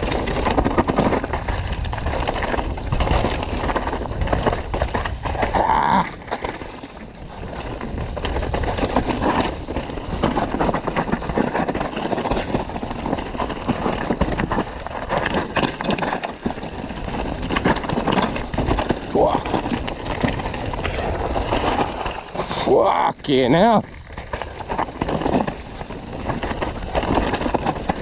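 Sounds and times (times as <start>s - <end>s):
bike rattling and knocking: 0.0s - 28.0s
bike tyres over dirt and rock: 0.0s - 28.0s.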